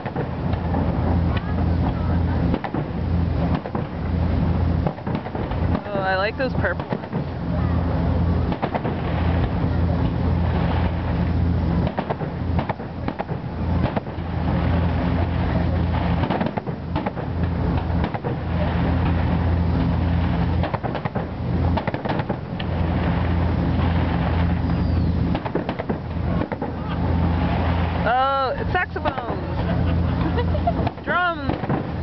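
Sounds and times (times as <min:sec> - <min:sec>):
fireworks bangs and crackles: 0:00.0 - 0:04.1, 0:04.8 - 0:32.0
low engine-like drone: 0:00.0 - 0:32.0.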